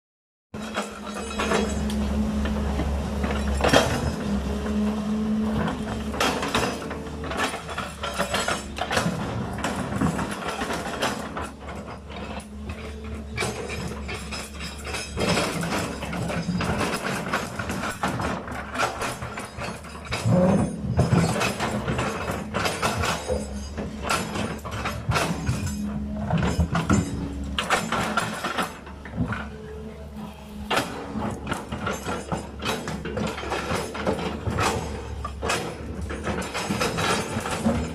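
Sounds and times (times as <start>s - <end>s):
excavator diesel engine running: 0.6s - 37.9s
metallic clanks and knocks: 0.6s - 37.9s.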